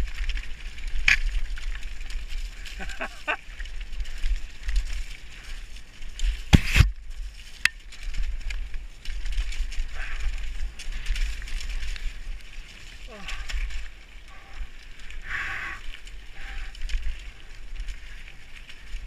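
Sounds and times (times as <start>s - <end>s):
mountain bike rattling over rocks: 0.0s - 19.0s
wind rumble on camera: 0.0s - 19.0s.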